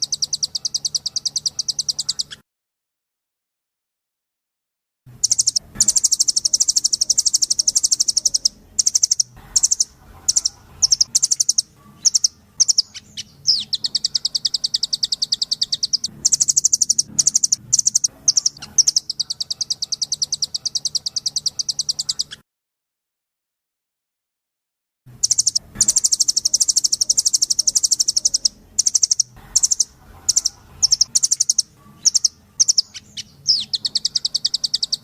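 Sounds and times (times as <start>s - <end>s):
bird singing rapid trills: 0.0s - 2.4s, 5.2s - 22.4s, 25.2s - 35.0s.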